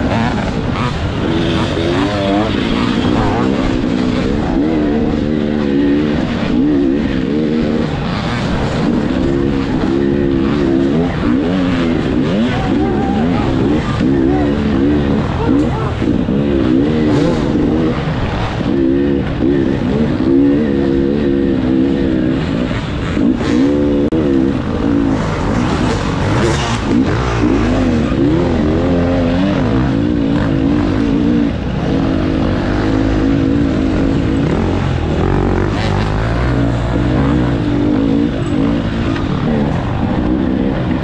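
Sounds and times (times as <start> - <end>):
dirt bike engine revving: 0.0 - 41.0
other dirt bikes running: 0.0 - 41.0.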